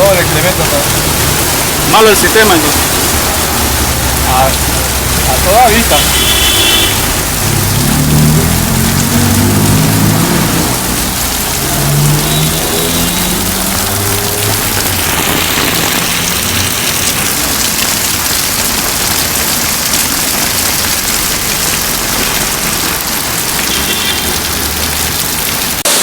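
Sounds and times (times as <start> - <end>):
loud rush of water: 0.0 - 26.0.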